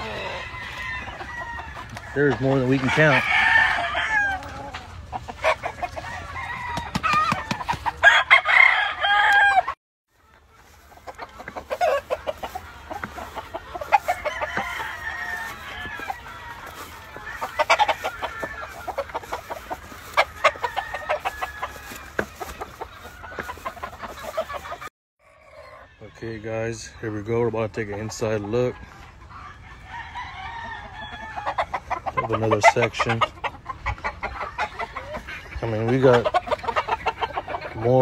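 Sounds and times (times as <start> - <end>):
chickens clucking: 0.0 - 38.0
roosters crowing: 0.0 - 38.0.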